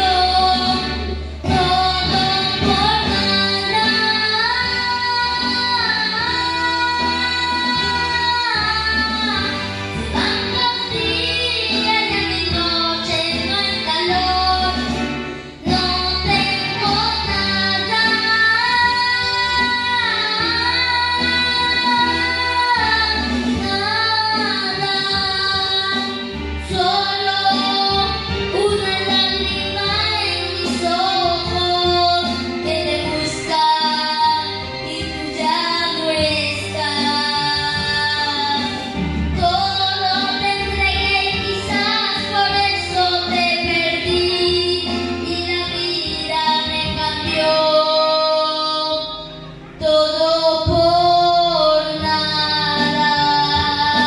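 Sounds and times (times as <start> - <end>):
boy singing into microphone: 0.0 - 54.0
music backing track with bass: 0.0 - 54.0.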